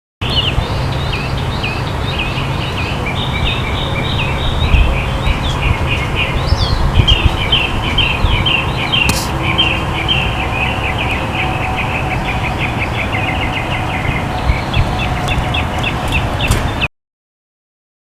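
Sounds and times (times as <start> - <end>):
low rumble: 0.2 - 16.8
small birds chirping: 0.2 - 16.9.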